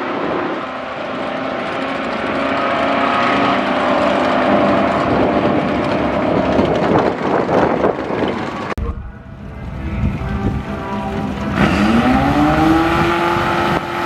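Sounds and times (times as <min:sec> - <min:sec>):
racing car engines at full throttle: 0:00.0 - 0:14.0.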